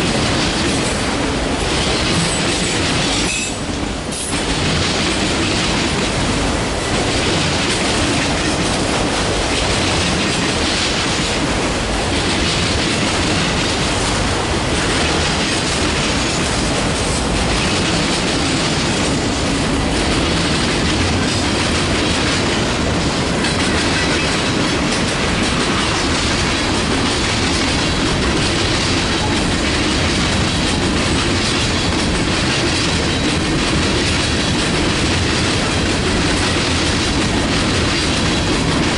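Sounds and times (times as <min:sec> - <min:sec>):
freight train cars rumbling: 0:00.0 - 0:38.9
wheels clicking over rail joints: 0:00.0 - 0:38.9.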